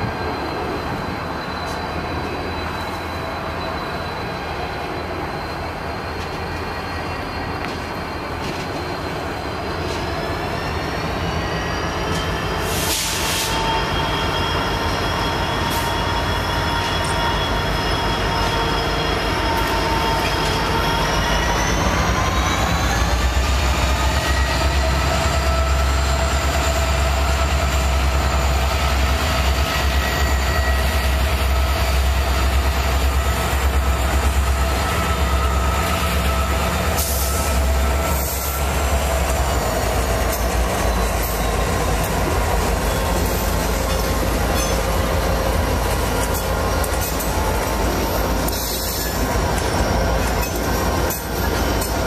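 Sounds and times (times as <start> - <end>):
locomotive engine drone: 0.0 - 52.0.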